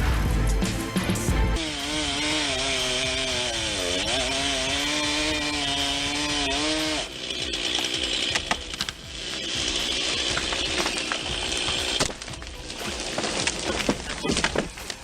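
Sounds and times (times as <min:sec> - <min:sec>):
chainsaw cutting wood: 0:01.6 - 0:15.0.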